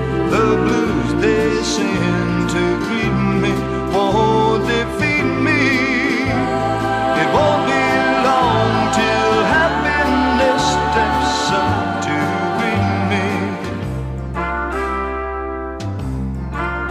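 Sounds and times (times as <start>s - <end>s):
horns: 0.0s - 16.9s
walking bass line: 0.0s - 16.9s.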